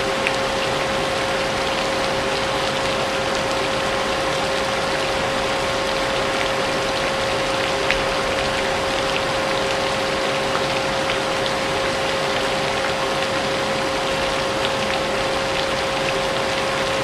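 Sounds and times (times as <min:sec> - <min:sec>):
rain rushing: 0:00.0 - 0:17.0.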